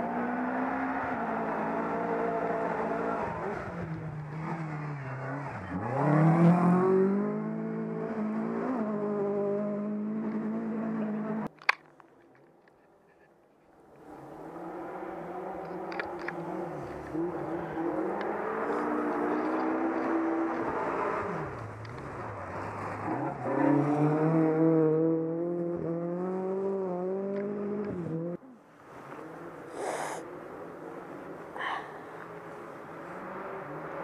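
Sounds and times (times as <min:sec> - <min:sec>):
rally car engine revving: 0:00.0 - 0:11.5, 0:14.1 - 0:28.4, 0:31.6 - 0:34.0.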